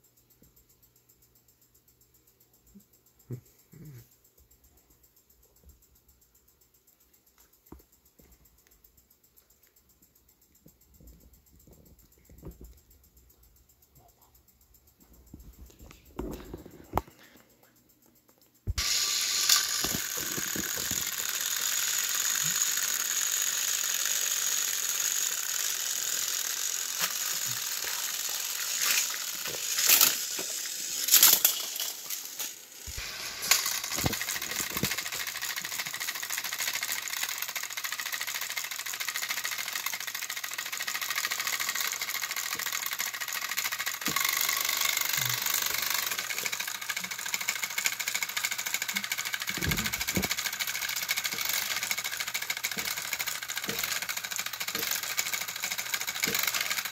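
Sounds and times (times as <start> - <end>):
toy train gear whir: 0.0 - 56.9
rattling: 10.6 - 56.9.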